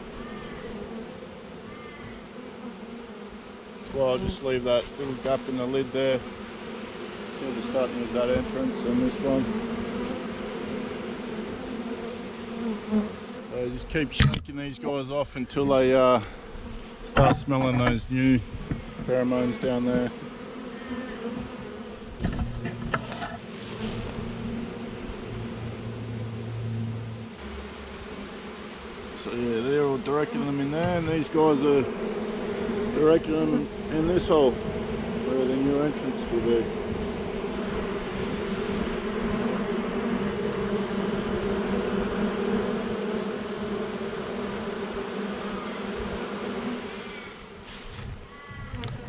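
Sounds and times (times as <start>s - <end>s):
bees buzzing: 0.0s - 49.0s.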